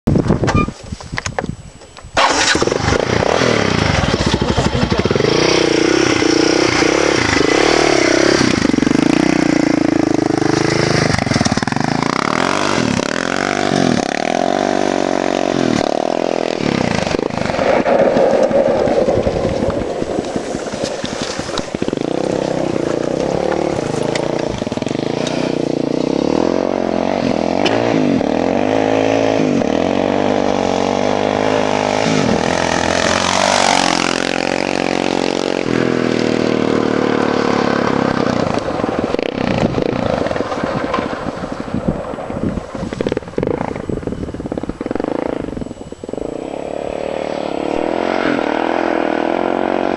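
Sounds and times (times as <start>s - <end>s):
atv engine revving: 2.2s - 41.5s, 43.1s - 49.9s.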